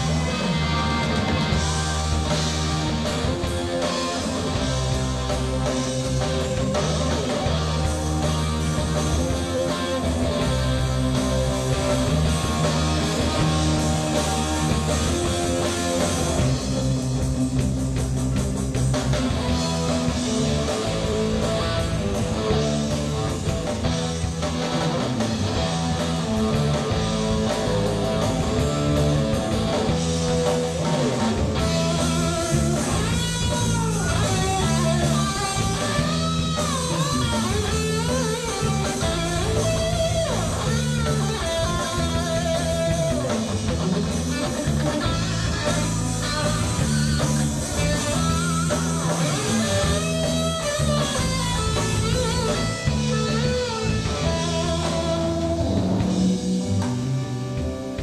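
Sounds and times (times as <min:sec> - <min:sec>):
electric guitar bending notes: 0:00.0 - 0:58.0
live rock band playing: 0:00.0 - 0:58.0.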